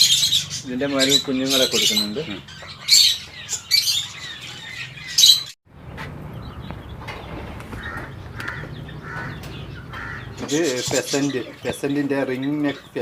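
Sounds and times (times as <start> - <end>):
caged birds squawking: 0.0 - 13.0.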